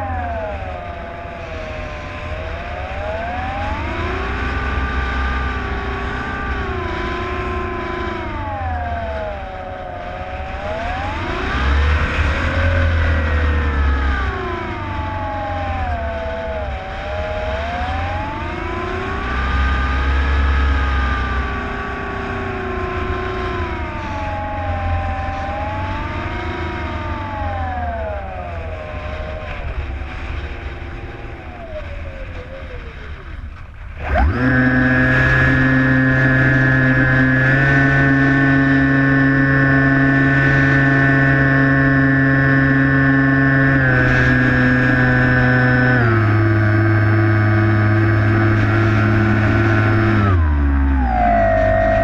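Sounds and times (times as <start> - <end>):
model plane motor whining: 0.0 - 52.0
wind rumbling on microphone: 0.0 - 52.0.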